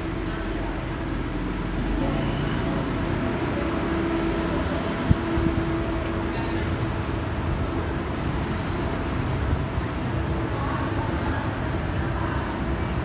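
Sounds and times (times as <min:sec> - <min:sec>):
mechanical hum and rumble: 0:00.0 - 0:13.0.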